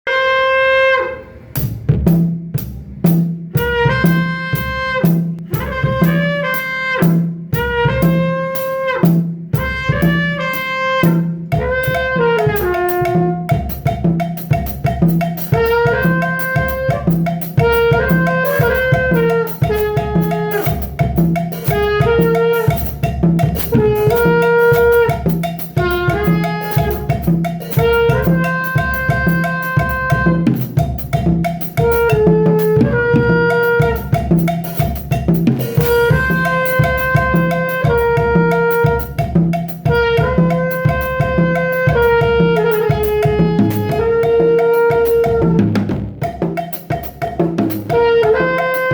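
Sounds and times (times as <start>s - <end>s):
sustained horn melody: 0.1s - 1.9s, 2.6s - 14.0s, 15.2s - 35.0s, 35.6s - 46.2s, 47.7s - 48.9s
drum kit beat: 0.5s - 48.9s.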